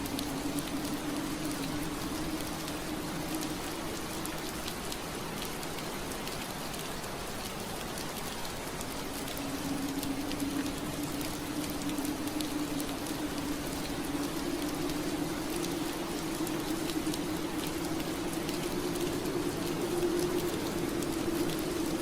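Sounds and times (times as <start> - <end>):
rain on window glass: 0.0 - 22.0.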